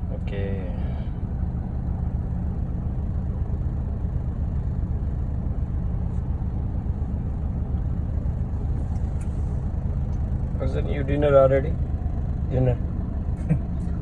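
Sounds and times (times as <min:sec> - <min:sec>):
road noise: 0:00.0 - 0:14.0
vehicle engine rumble: 0:00.0 - 0:14.0.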